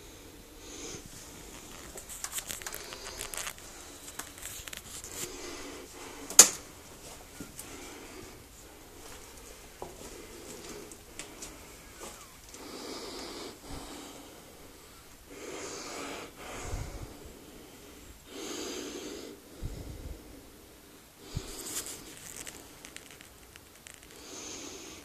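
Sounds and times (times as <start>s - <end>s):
person breathing heavily: 0.0s - 22.9s, 24.0s - 25.0s.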